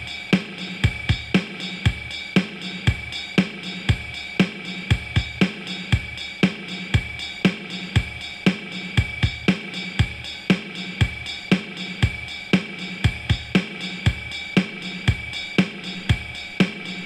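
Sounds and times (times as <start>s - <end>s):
drum machine beat: 0.0s - 17.0s.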